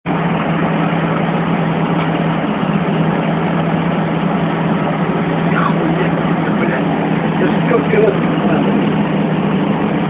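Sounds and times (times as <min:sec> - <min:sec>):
low hum: 0:00.1 - 0:10.0
metro train running: 0:00.1 - 0:10.0.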